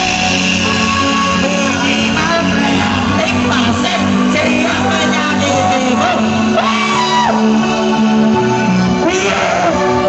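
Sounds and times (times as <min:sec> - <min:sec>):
loud music with singing voice: 0:00.0 - 0:10.0
steady bass notes: 0:00.0 - 0:10.0.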